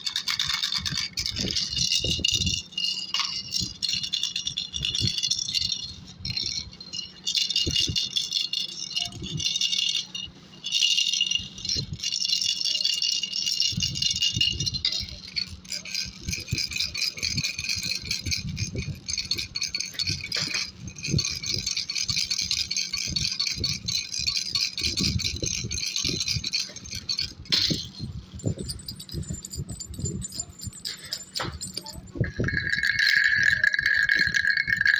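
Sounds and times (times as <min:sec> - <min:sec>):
baby rattle bells jingling: 0:00.0 - 0:34.9.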